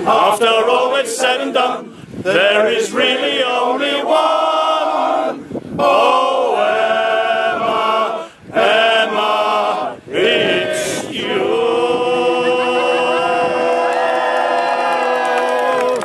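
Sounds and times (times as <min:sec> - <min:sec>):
male chorus singing a cappella: 0:00.0 - 0:14.3.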